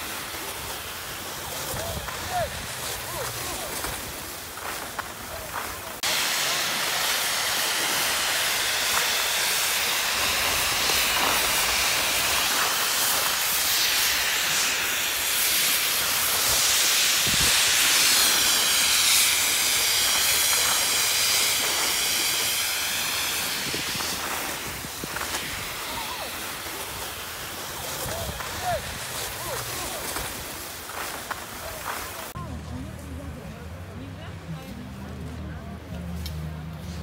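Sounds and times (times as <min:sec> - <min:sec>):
skis scraping over snow: 0:00.0 - 0:33.5.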